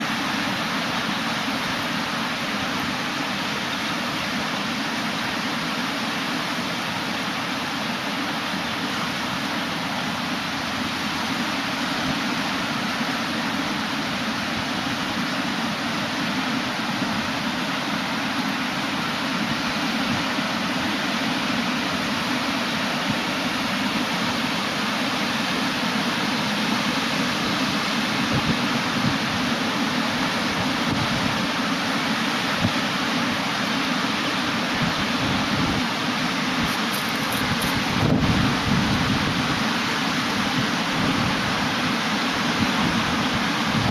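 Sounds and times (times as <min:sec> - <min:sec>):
ocean surf washing on shore: 0:00.0 - 0:43.9.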